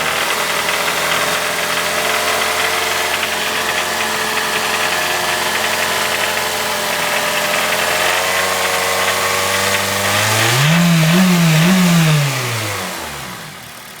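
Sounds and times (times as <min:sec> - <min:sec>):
car engine running with knocking: 0:00.0 - 0:14.0
engine revving: 0:00.0 - 0:14.0.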